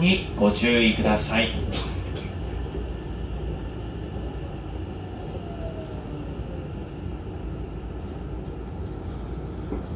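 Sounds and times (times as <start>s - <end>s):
train rumbling: 0.0s - 9.9s.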